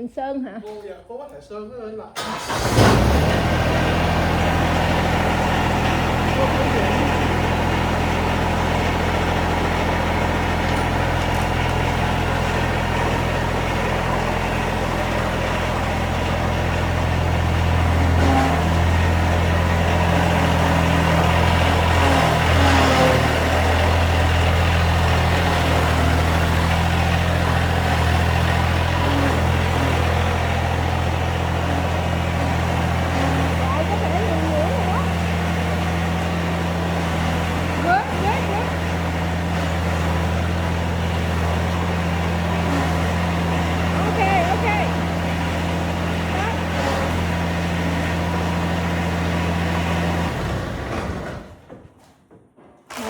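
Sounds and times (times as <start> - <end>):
lawn mower engine running: 2.2 - 52.0.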